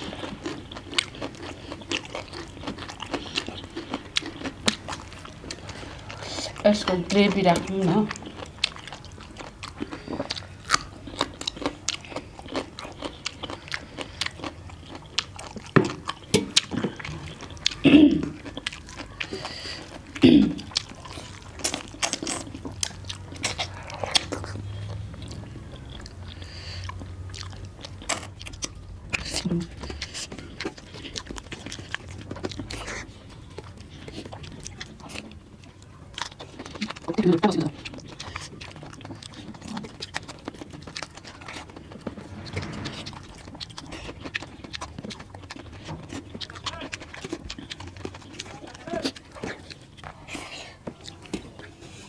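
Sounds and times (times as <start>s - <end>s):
chewing and lip smacking: 0.0s - 52.0s.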